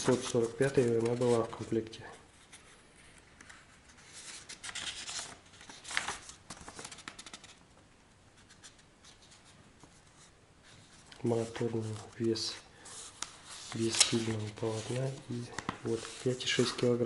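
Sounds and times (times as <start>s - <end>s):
paper pages rustling: 0.0s - 7.6s, 8.4s - 17.0s.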